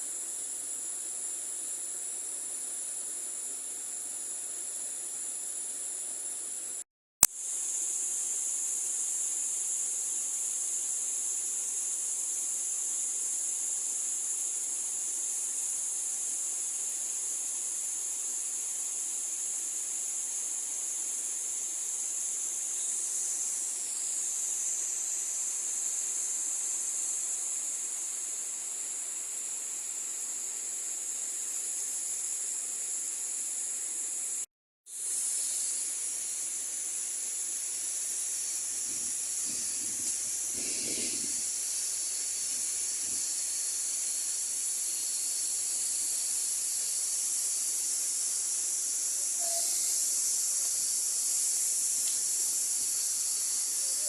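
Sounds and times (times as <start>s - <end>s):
shrill insect chorus: 0.0s - 54.0s.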